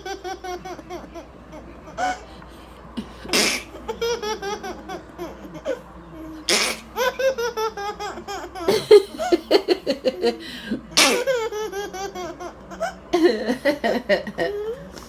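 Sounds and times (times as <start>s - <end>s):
baby laughing: 0.0s - 15.0s
people laughing: 0.0s - 15.0s.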